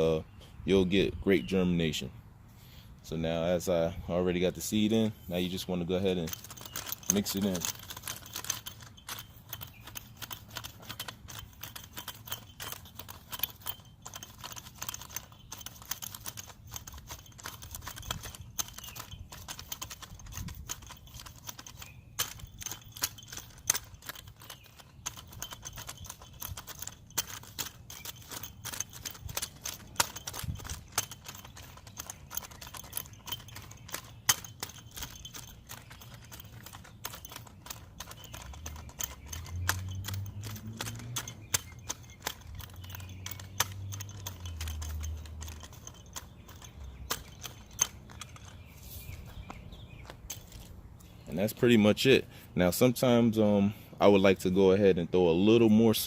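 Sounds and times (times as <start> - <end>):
soil scraping with gritty clicks: 3.0 - 52.2.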